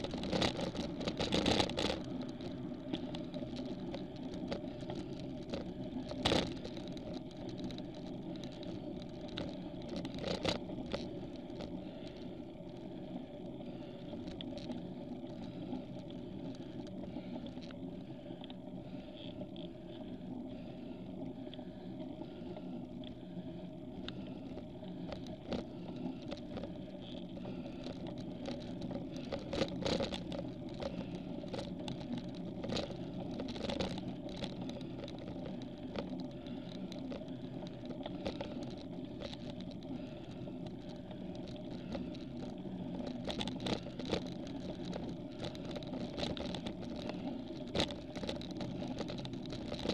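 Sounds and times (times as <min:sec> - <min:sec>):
bicycle riding noise: 0:00.0 - 0:49.9.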